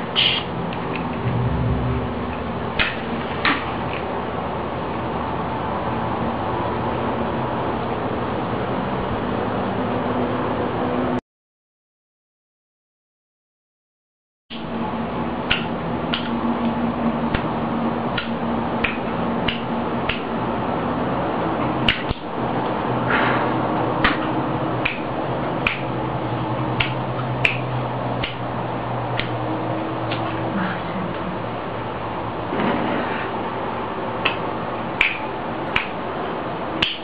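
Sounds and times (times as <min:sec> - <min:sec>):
steady hum: 0:00.0 - 0:11.2, 0:14.5 - 0:37.0.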